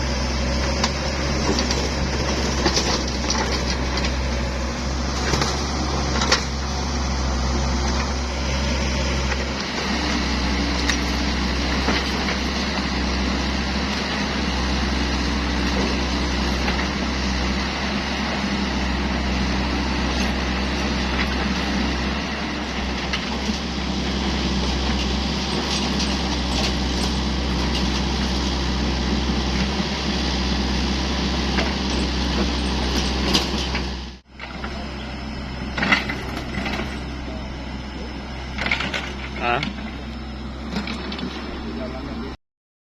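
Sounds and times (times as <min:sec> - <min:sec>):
excavator diesel engine running: 0:00.0 - 0:42.4.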